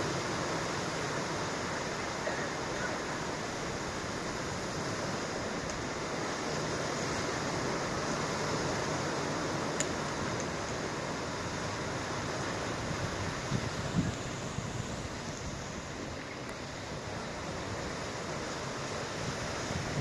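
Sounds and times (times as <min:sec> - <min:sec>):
ocean waves washing: 0:00.0 - 0:20.0
wind: 0:00.0 - 0:20.0.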